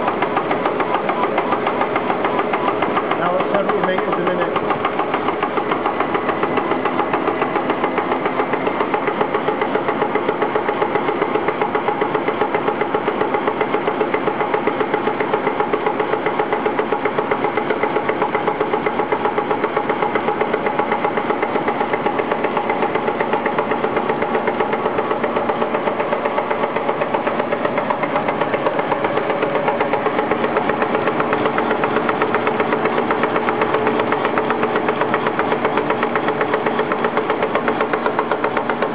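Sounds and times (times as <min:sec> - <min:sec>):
machine motors and rollers humming: 0:00.0 - 0:38.9.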